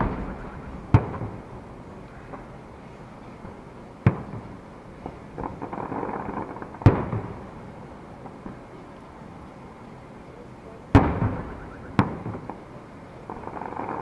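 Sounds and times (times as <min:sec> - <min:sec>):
fireworks booming: 0:00.0 - 0:08.8, 0:10.6 - 0:14.0
fireworks crackling pops: 0:00.0 - 0:09.4, 0:10.9 - 0:14.0.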